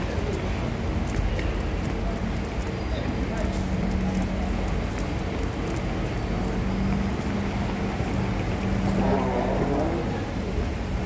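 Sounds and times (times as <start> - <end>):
standing train hum: 0.0 - 11.0.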